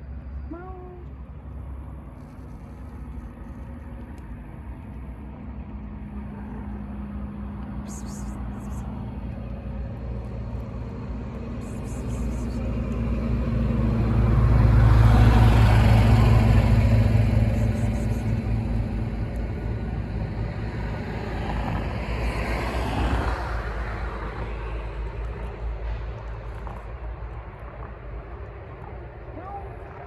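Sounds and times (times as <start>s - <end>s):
motor vehicles passing: 0.1s - 30.0s.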